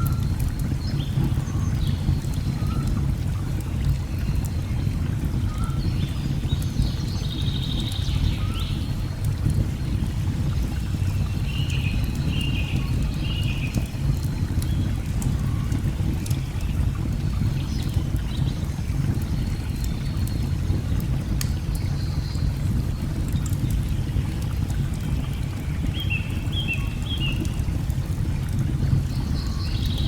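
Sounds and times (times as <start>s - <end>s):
log fire crackling and popping: 0.0s - 30.0s.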